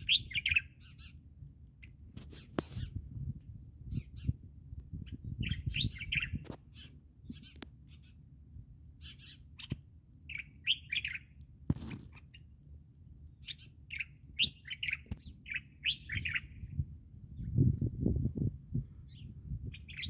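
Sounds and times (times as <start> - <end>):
small birds chirping: 0.0 - 3.0, 3.9 - 8.3, 8.9 - 12.6, 13.3 - 17.6, 19.0 - 20.0
low background rumble: 0.0 - 20.0.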